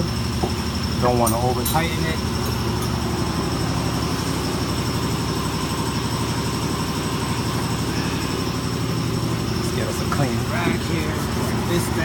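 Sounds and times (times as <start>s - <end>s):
machine pulsing drone: 0.0s - 12.0s.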